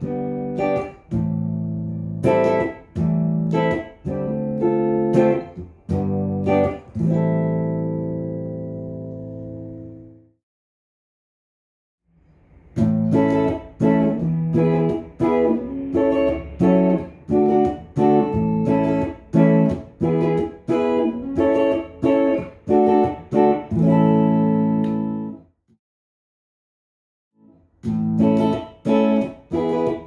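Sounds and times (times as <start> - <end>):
clean electric guitar chords: 0.0 - 10.3, 12.8 - 25.4, 27.8 - 30.0.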